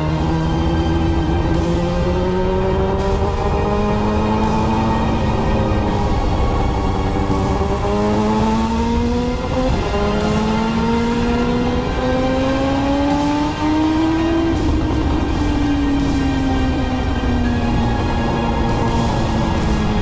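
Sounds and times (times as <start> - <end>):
motorbike engine accelerating: 0.0 - 20.0.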